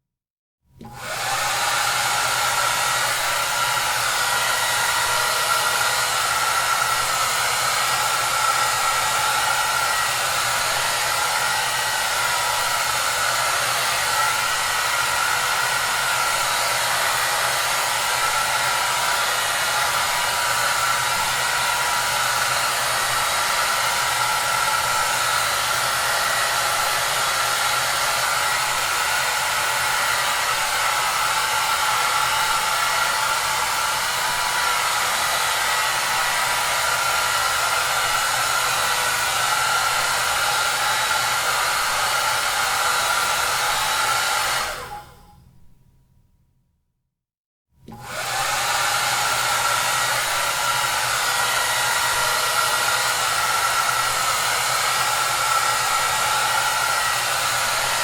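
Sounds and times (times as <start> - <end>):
hair dryer running: 0.8 - 45.3, 47.8 - 58.0.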